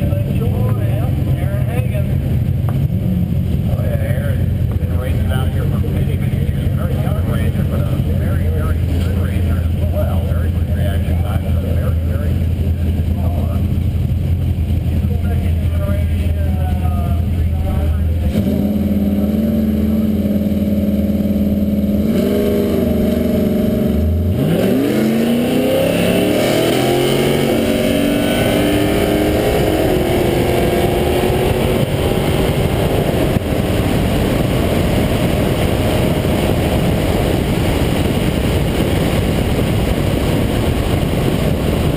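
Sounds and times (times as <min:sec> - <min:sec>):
car engine accelerating hard: 0:00.0 - 0:41.9
car engine idling and revving: 0:00.0 - 0:41.9
wind rush: 0:00.0 - 0:41.9.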